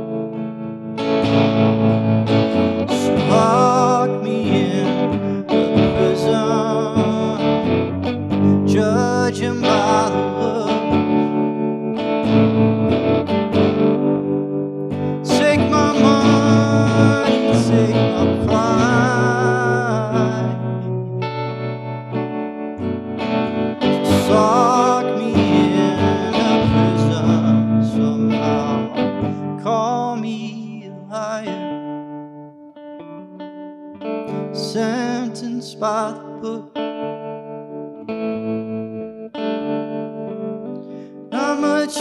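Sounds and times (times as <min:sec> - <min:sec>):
electric guitar with effects: 0:00.0 - 0:42.0.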